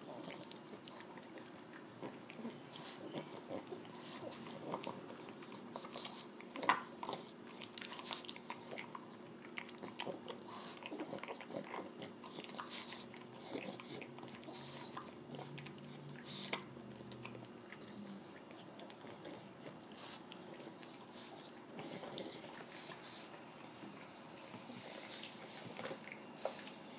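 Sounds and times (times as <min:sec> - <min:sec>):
dog chewing watermelon: 0:00.0 - 0:26.9.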